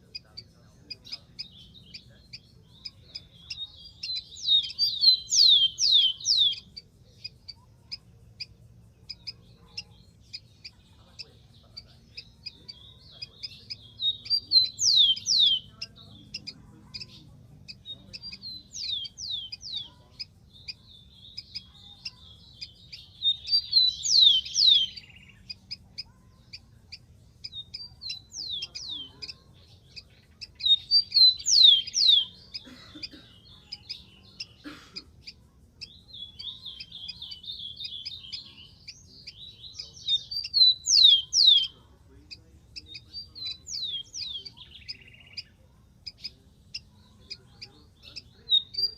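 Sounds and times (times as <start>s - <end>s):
faint low hum: 0.0s - 48.9s
sparrow singing: 0.0s - 48.9s.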